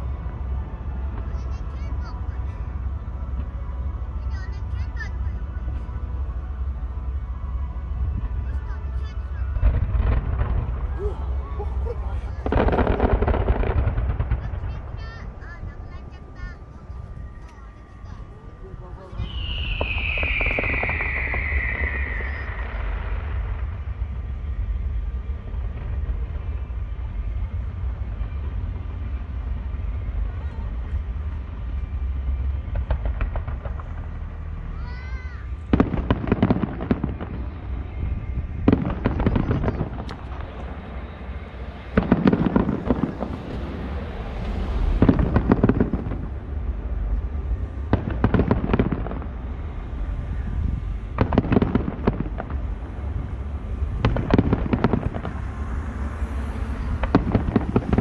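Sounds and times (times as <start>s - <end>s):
steady low rumble: 0.0s - 58.0s
distant fireworks bursting: 7.5s - 58.0s.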